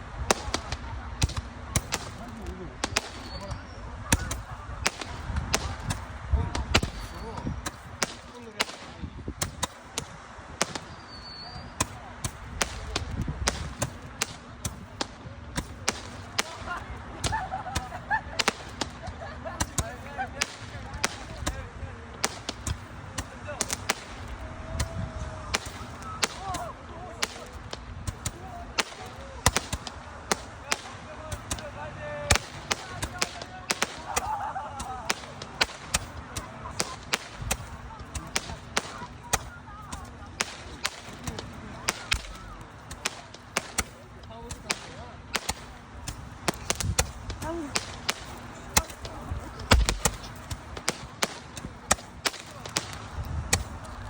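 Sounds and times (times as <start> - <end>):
fireworks popping and banging: 0.0 - 54.0.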